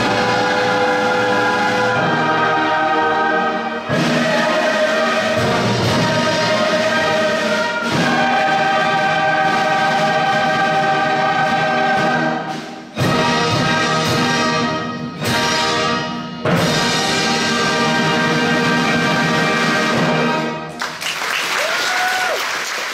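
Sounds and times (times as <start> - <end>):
choir with orchestra: 0.0 - 20.8.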